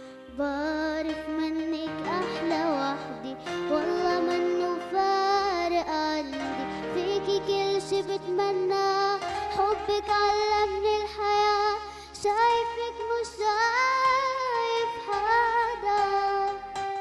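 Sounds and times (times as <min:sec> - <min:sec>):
electronic keyboard notes: 0:00.0 - 0:17.0
boy singing: 0:00.4 - 0:17.0.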